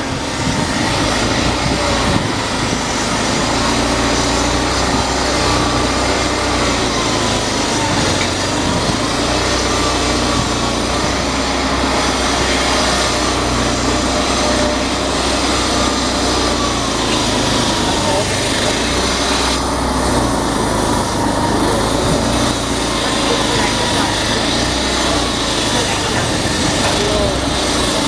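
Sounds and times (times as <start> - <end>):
locomotive drone with hiss: 0.0 - 28.0.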